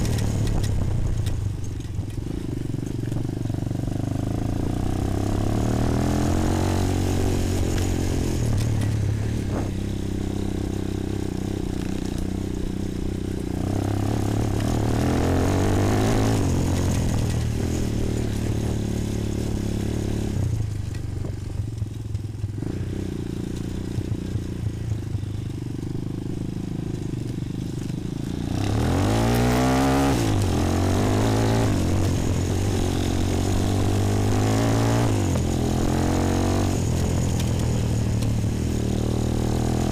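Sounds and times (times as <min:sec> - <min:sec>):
quad bike engine revving: 0:02.1 - 0:21.4, 0:22.5 - 0:39.9.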